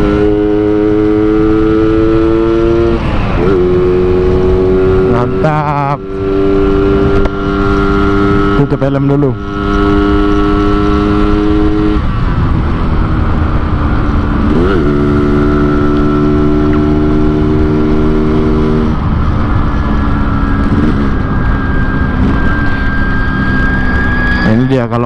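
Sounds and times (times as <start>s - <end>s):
wind on microphone: 0.0s - 24.6s.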